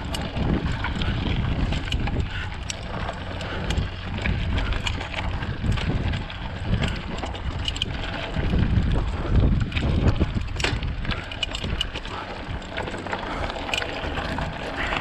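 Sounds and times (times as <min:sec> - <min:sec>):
bike rattling clicks: 0:00.0 - 0:15.0
bike tyres rumbling on dirt: 0:00.0 - 0:15.0
wind buffeting microphone: 0:00.0 - 0:15.0.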